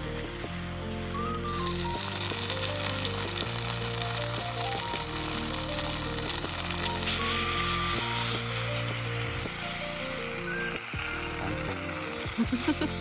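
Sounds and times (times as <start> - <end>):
background music: 0.0 - 13.0
food sizzling in a pan: 0.0 - 13.0.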